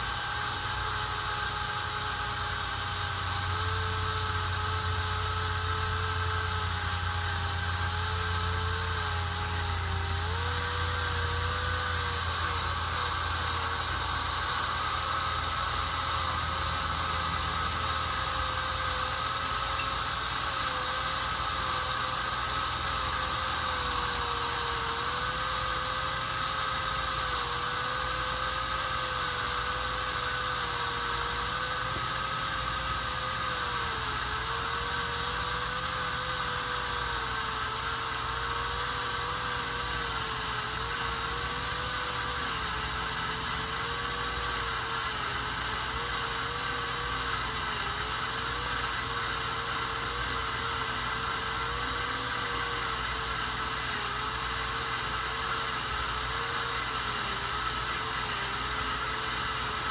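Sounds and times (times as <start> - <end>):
cordless drill boring into steel: 0.0 - 59.9.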